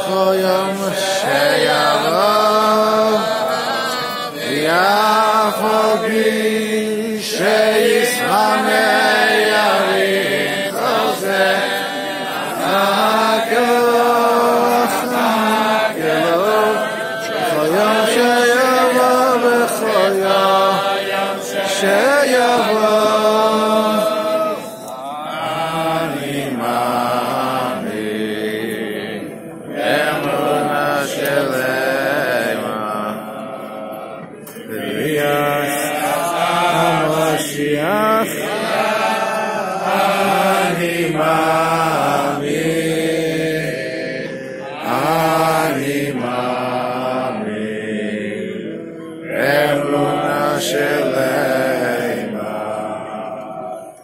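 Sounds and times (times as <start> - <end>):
men singing in unison: 0.0 - 54.0.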